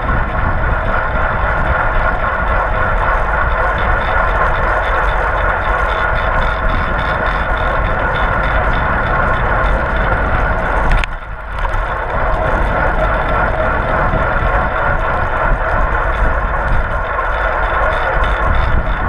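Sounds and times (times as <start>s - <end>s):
bicycle tyre and drivetrain noise: 0.0s - 19.0s
wind rushing over microphone: 0.0s - 19.0s.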